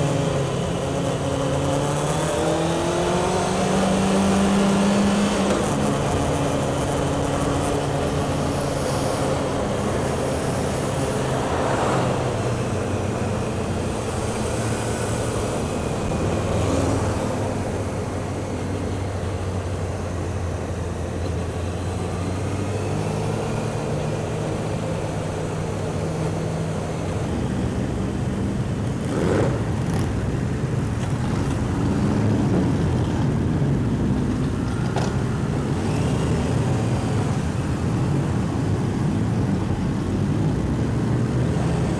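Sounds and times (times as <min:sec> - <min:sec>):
motorcycle engines running: 0:00.0 - 0:41.9
wind rush on camera: 0:00.0 - 0:41.9.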